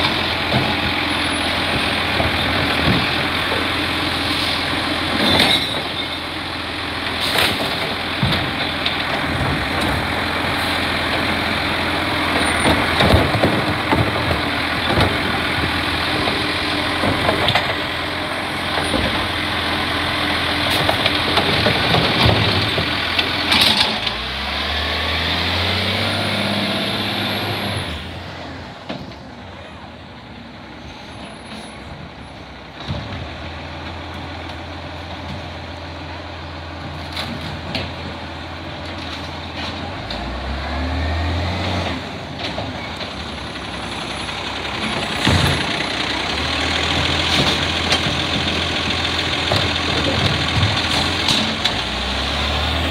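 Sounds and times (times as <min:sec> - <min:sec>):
diesel engine revving: 0:00.0 - 0:29.4, 0:32.5 - 0:52.9.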